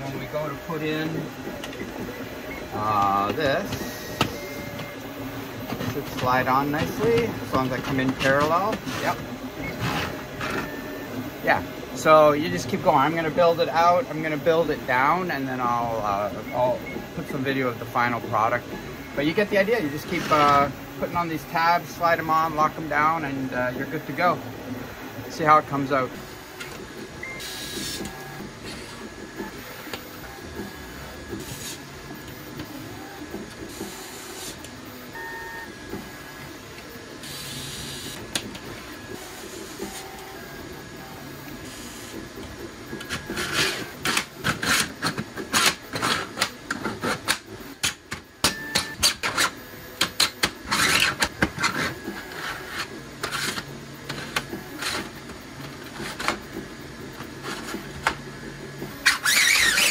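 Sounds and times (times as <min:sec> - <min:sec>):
three d printer running: 0:00.0 - 0:59.9.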